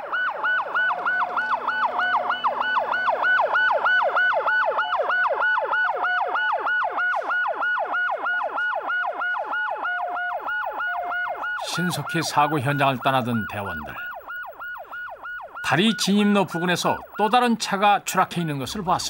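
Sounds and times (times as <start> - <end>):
siren yelping: 0.0 - 19.0.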